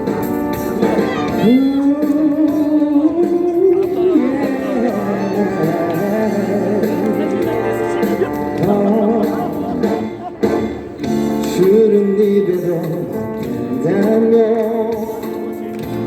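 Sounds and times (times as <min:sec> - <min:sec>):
backing music: 0:00.0 - 0:16.0
person singing: 0:00.8 - 0:10.7, 0:11.4 - 0:16.0.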